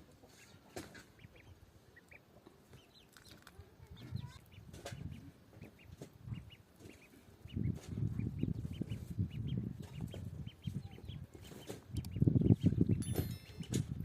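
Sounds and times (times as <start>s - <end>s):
chickens clucking: 0.0s - 13.8s.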